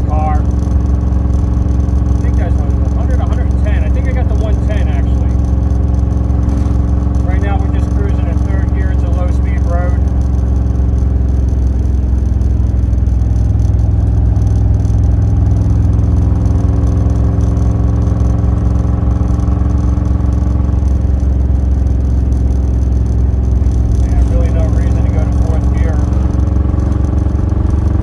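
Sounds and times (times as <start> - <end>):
car engine cruising from inside cabin: 0.0 - 28.0.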